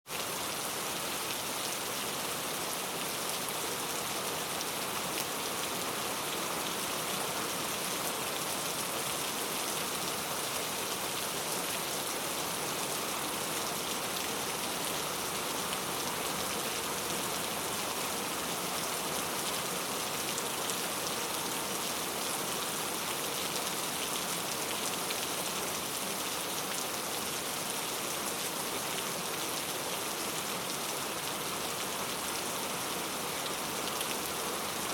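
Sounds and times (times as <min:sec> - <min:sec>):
heavy rain on a tent: 0:00.0 - 0:34.9.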